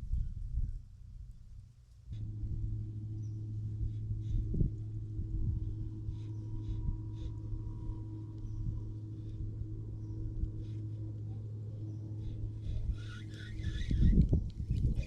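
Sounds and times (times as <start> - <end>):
wind buffeting microphone: 0.0 - 1.3, 2.1 - 15.0
steady low hum: 0.0 - 15.0.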